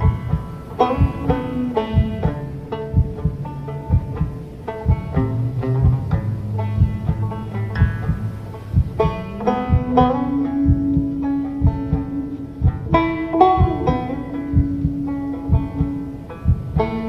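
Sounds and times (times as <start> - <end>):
banjo picking: 0.0 - 17.0
held low tone: 0.0 - 17.0.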